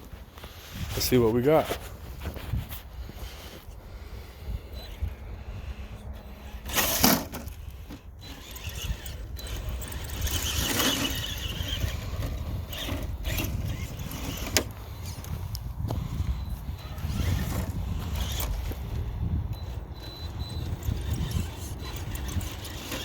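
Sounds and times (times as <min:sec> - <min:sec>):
electric motor whining: 0:03.1 - 0:23.0.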